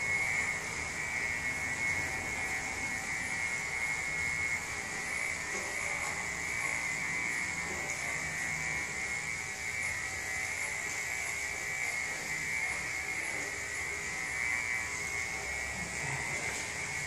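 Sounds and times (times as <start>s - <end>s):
electric clippers humming: 0.0s - 17.0s.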